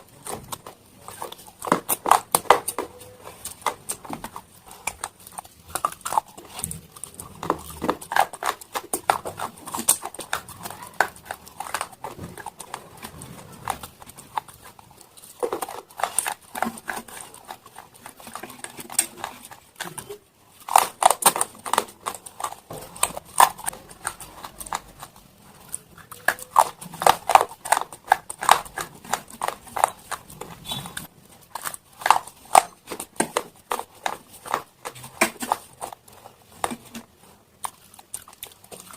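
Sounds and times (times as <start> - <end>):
chewing stone crunching: 0.0 - 38.9.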